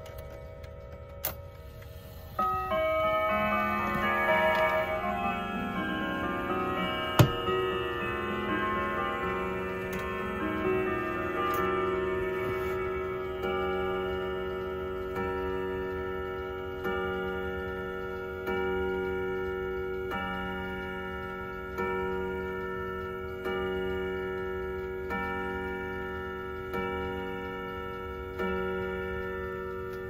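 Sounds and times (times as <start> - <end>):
wall clock chime bongs: 0.0 - 30.0.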